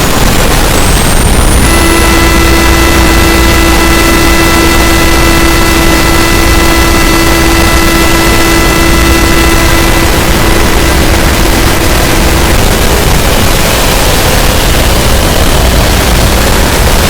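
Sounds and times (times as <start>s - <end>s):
distorted electronic buzzing: 0.0s - 17.0s
faint higher electronic tones: 1.2s - 17.0s.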